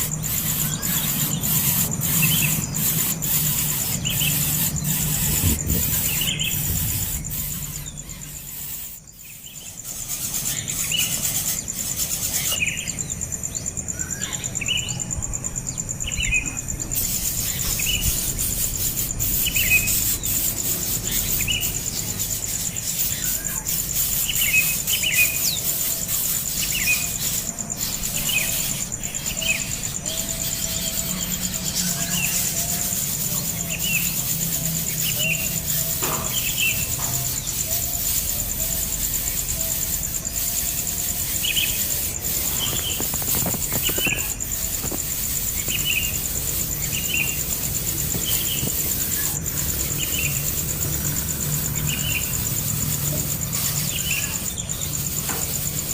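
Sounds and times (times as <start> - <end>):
bird chirping: 0.0 - 55.9
high-pitched insect drone: 0.0 - 55.9.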